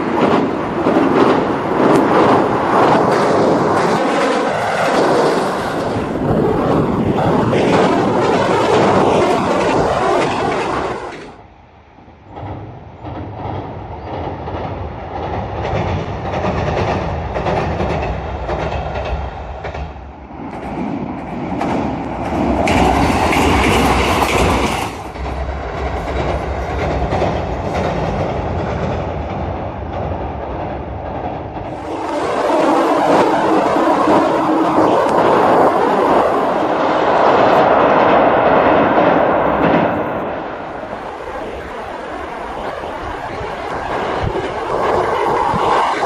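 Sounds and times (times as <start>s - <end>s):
train passing: 0.0s - 46.0s.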